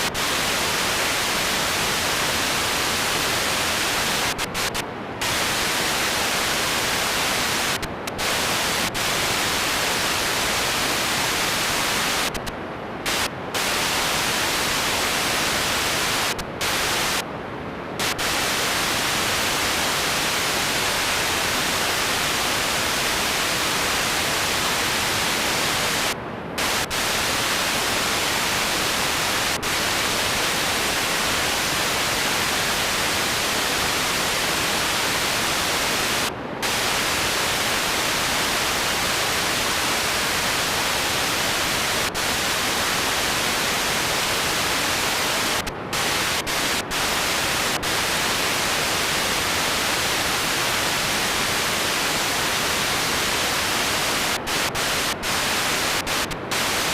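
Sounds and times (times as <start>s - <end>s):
loud static hiss: 0.0s - 56.9s.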